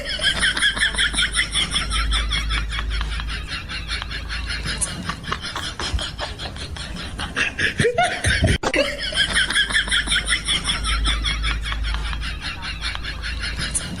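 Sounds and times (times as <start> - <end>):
laughter in bursts: 0.0 - 14.0.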